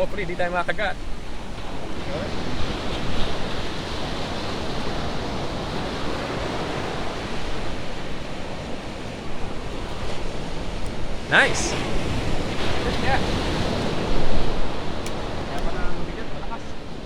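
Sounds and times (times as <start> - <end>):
ocean surf on beach: 0.0 - 17.0
wind rumbling on microphone: 0.0 - 17.0.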